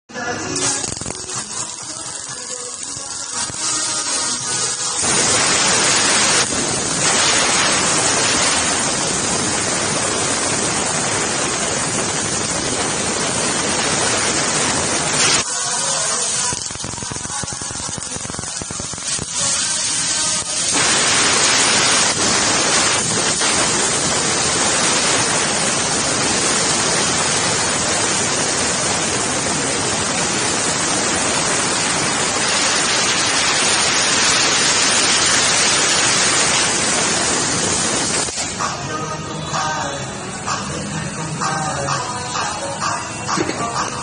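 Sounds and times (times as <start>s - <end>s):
laser cutting machine hissing: 0.4s - 39.8s.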